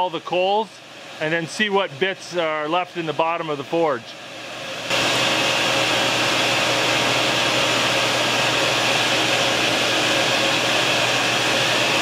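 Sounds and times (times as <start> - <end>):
forge blower rushing air: 0.0 - 12.0.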